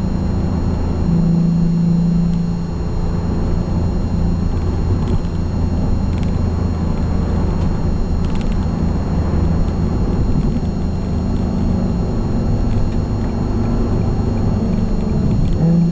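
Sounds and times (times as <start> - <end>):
car engine droning in cabin: 0.0 - 15.9.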